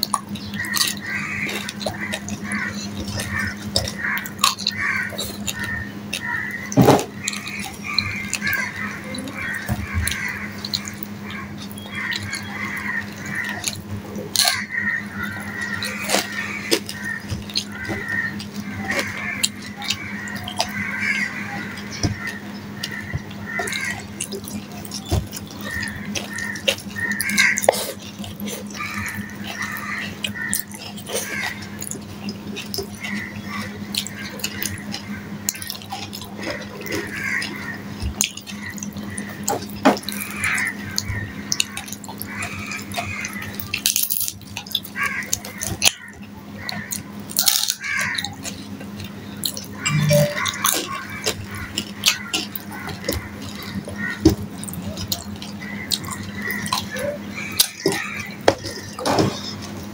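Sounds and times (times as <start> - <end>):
steady low hum: 0.0 - 59.9
wet chewing and lip smacking: 0.0 - 59.9.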